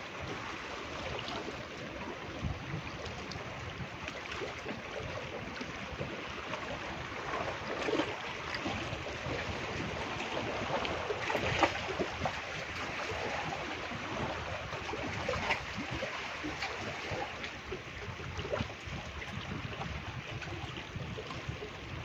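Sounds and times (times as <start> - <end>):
waves lapping against rocks: 0.0 - 22.0.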